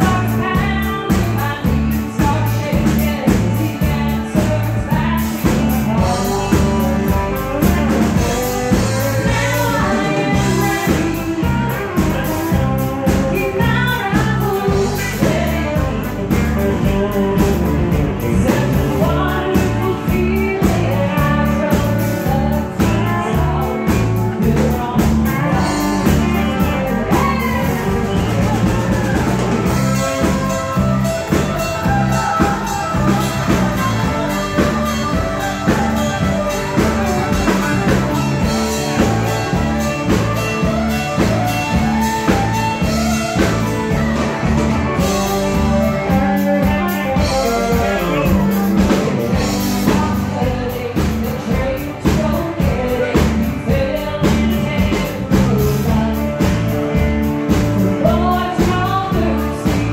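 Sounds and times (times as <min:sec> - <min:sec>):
country song singing with band: 0:00.0 - 0:59.9.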